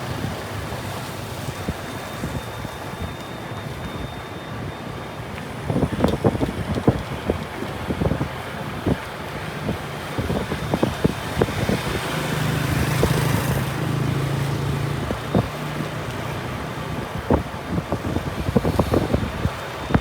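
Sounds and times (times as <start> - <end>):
road noise: 0.0 - 20.0
vehicle engine low hum: 0.0 - 20.0
wind buffeting microphone: 0.0 - 20.0.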